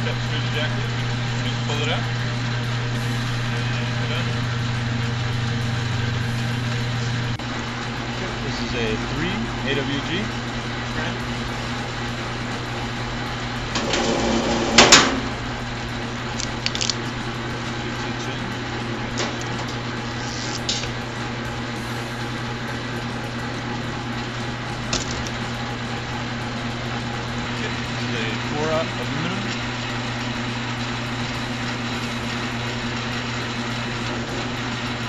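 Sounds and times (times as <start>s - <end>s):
wire stripping machine humming: 0.0s - 35.0s.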